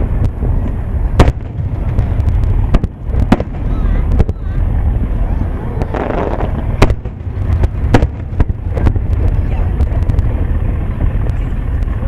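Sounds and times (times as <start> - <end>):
fireworks bursting: 0.0 - 11.9
low rumble: 0.0 - 12.0.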